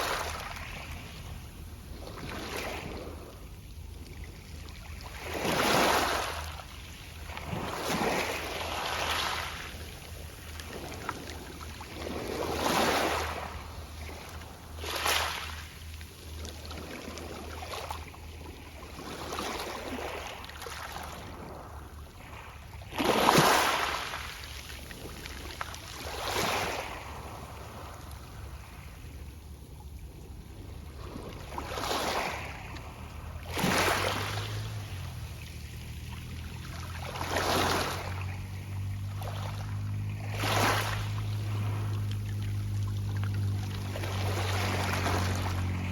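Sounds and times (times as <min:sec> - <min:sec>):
sea waves washing onto pebbles: 0:04.0 - 0:28.9, 0:30.9 - 0:45.9.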